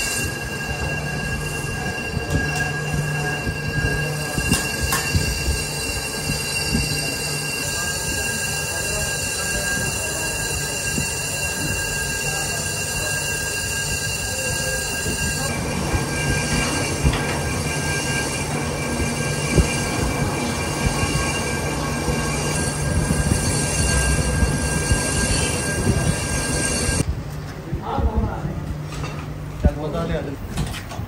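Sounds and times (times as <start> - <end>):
metal lathe cutting: 0.0 - 27.0.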